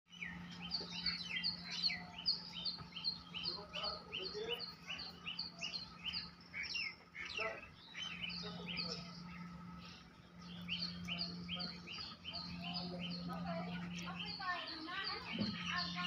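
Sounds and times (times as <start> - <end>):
small birds chirping: 0.1 - 16.0
steady low hum: 0.1 - 16.0.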